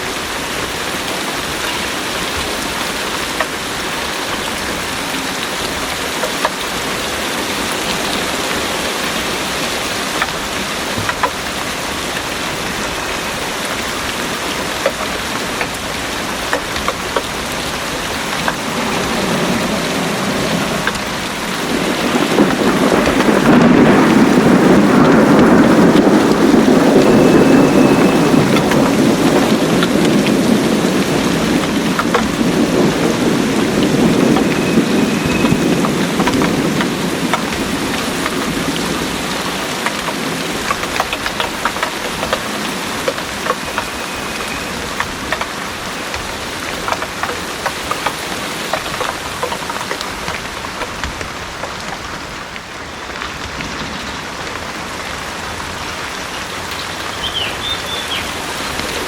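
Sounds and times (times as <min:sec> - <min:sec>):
heavy rain: 0:00.0 - 0:59.0
rolling thunder rumble: 0:00.2 - 0:56.3.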